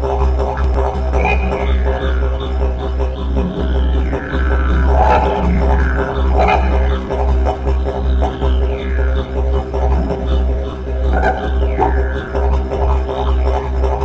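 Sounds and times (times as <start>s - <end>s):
pulsing deep drone music: 0.0s - 14.0s
high sweeping sounds: 0.8s - 13.1s.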